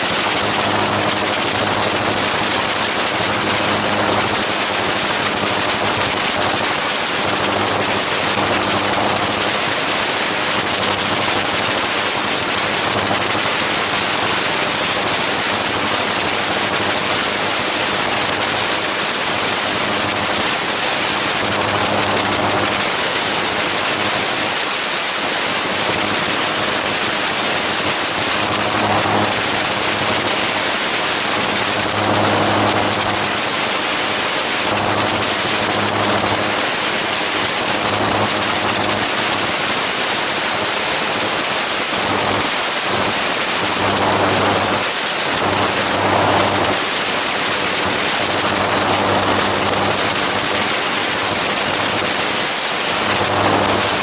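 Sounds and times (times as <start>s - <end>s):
aircraft engine and propeller hum: 0.0s - 54.0s
wind noise on microphone: 0.0s - 54.0s.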